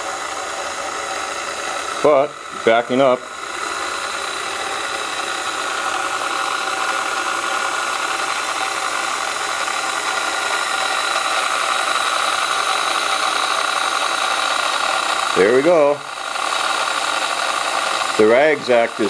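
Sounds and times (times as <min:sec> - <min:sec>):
hand mixer motor whining: 0:00.0 - 0:19.0.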